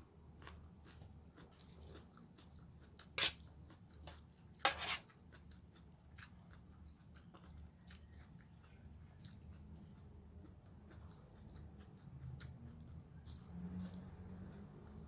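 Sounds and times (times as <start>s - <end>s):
chewing crunchy salad: 0.1s - 15.0s.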